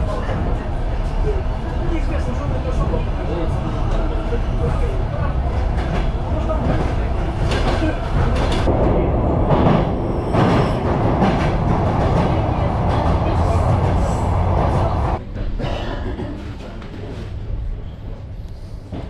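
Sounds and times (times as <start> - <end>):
electric train rumbling on rails: 0.0 - 19.0.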